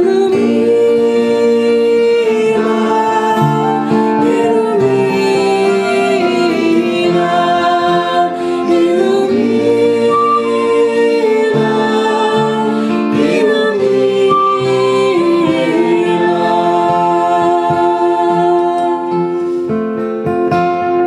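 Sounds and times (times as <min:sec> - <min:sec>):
voices chanting held notes: 0:00.0 - 0:19.6
strummed acoustic guitars: 0:00.0 - 0:21.0.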